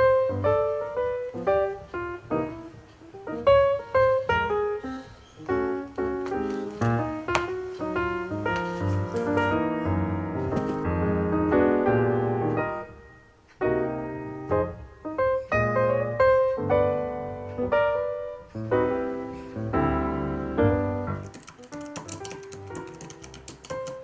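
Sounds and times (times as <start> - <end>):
solo piano chords: 0.0 - 24.0.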